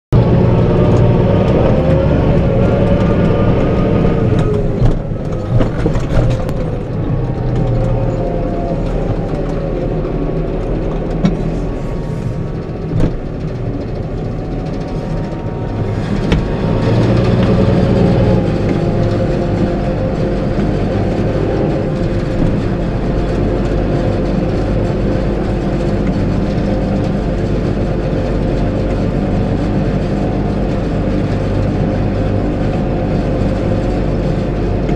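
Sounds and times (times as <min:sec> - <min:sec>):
tractor engine under load: 0:00.1 - 0:34.9
knocks and rattles in cab: 0:00.2 - 0:34.9.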